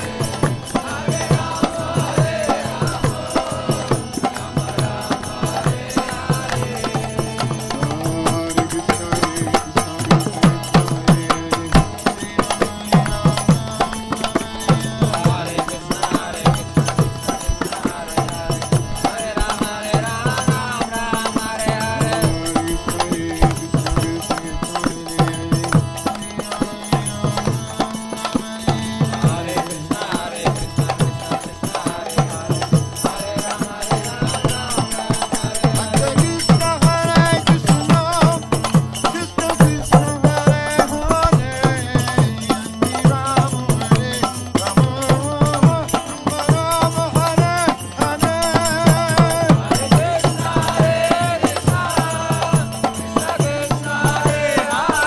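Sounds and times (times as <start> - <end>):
chanting voices: 0.0 - 55.0
drum beat: 0.0 - 55.0
ringing hand cymbals: 0.0 - 55.0.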